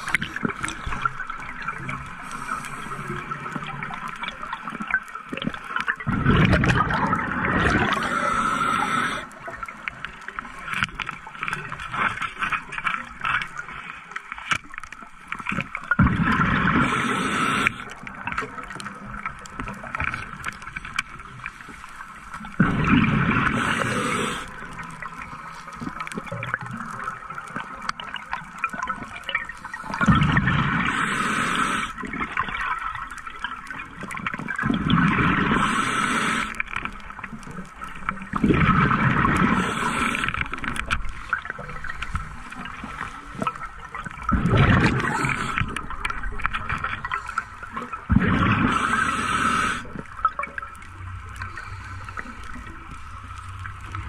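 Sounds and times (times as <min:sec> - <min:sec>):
exhaled bubbles rushing: 0:00.0 - 0:13.4, 0:15.5 - 0:21.3, 0:22.5 - 0:51.8.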